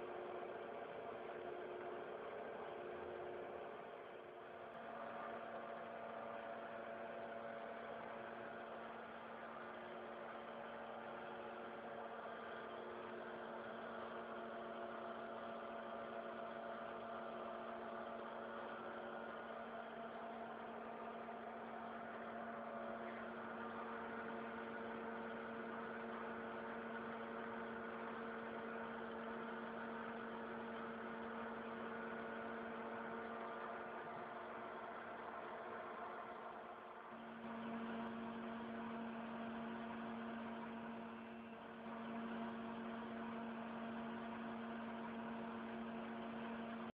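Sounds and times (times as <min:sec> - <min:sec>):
milling machine hum: 0:04.5 - 0:46.9.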